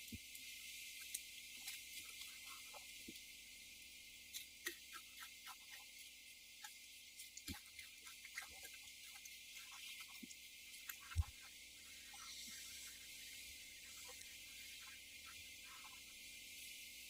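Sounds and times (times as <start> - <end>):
steady hiss: 0.0 - 17.0
monkey eating clicks and rustles: 0.1 - 3.3, 4.2 - 16.1.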